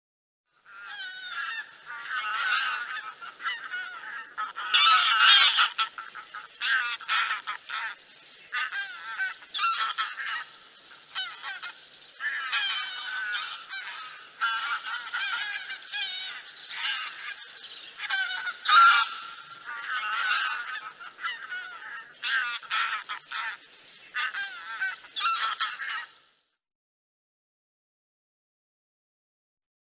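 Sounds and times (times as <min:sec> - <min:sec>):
geese honking: 0:00.7 - 0:26.2.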